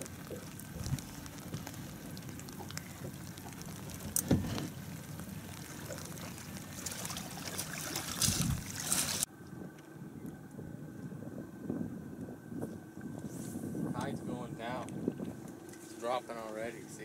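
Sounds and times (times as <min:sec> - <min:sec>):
water lapping against metal hull: 0:00.0 - 0:17.0.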